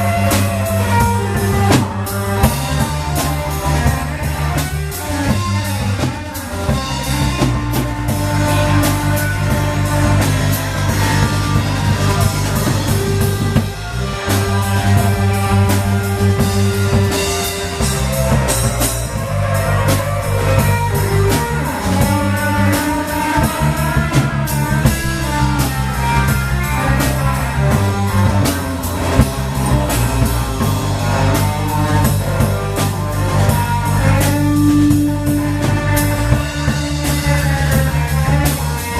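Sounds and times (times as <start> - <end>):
bass line: 0.0 - 38.9
drum kit beat: 0.0 - 38.9
guitar lines: 0.0 - 38.9.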